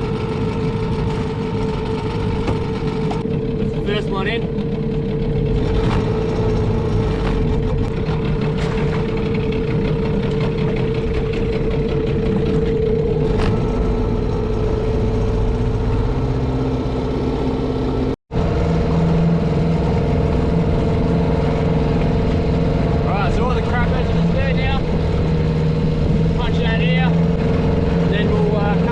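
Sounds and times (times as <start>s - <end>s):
water wash: 0.0s - 3.3s, 5.3s - 28.9s
outboard motor running: 0.0s - 28.9s.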